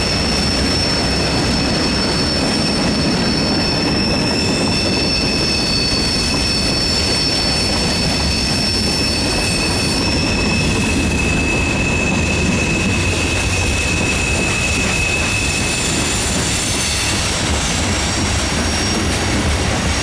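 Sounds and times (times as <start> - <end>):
high-pitched wheel squeal: 0.0 - 20.0
steel wheels rumbling on rail: 0.0 - 20.0.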